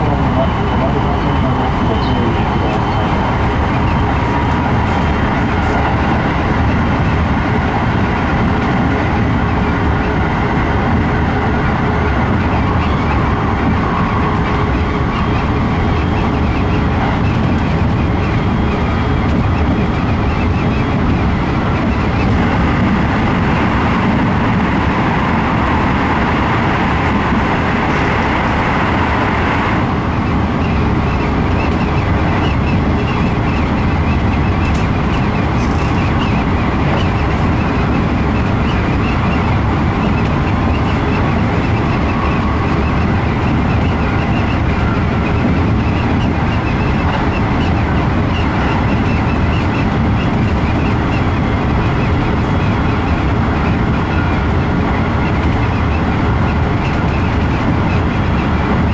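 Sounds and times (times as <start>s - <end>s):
electric train running on track: 0.0s - 58.9s.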